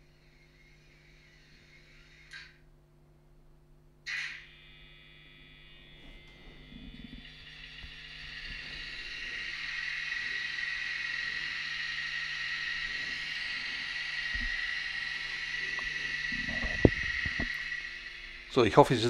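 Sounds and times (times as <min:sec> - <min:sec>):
electric buzzing and high whine: 0:00.0 - 0:19.0.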